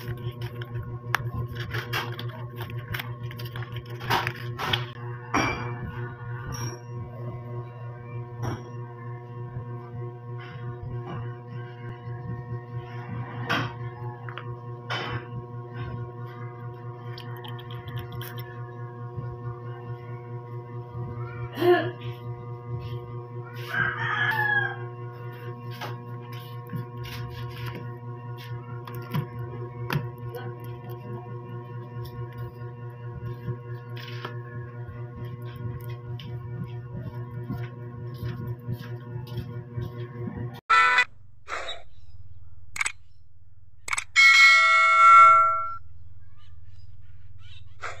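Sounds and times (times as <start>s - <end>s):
steady droning hum: 0.0s - 48.0s.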